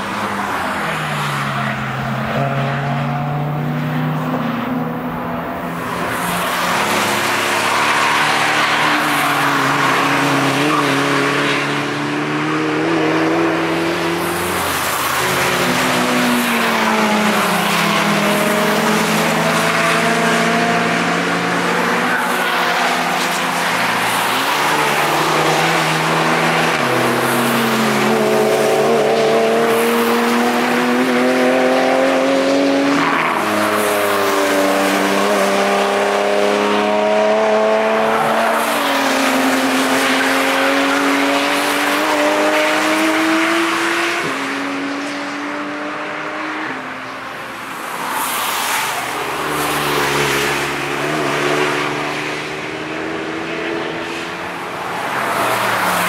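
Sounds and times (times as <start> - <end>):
race car engines revving past: 0.0 - 56.0.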